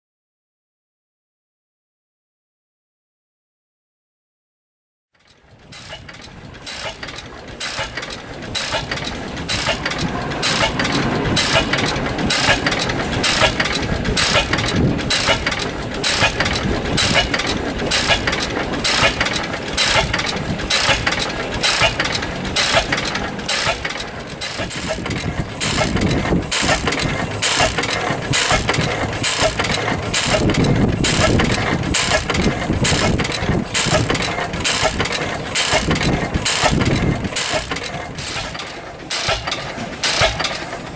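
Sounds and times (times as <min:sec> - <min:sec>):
single-cylinder stationary engine: 0:05.2 - 0:40.9.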